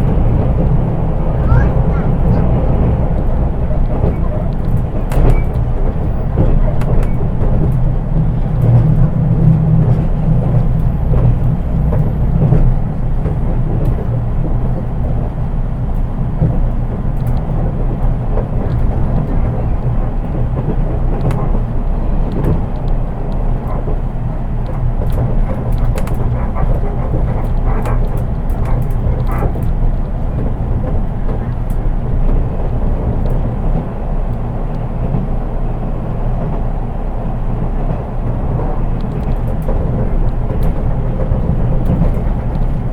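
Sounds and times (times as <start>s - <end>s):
train wheels rumbling on rail: 0.0s - 42.9s
light clicks and rattles: 1.3s - 34.8s, 37.9s - 42.9s.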